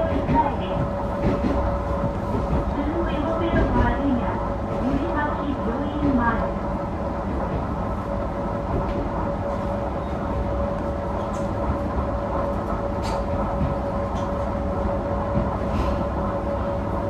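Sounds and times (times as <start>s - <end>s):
train engine and rail rumble: 0.0s - 17.0s.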